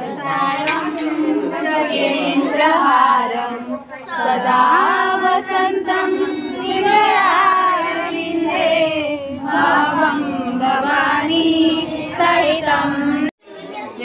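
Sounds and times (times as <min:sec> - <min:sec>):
women singing a hymn: 0:00.0 - 0:13.3.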